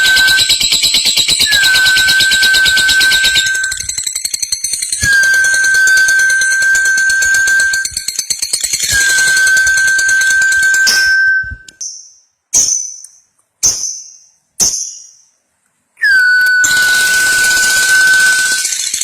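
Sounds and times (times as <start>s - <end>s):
lovebird chirps: 0.0s - 15.3s.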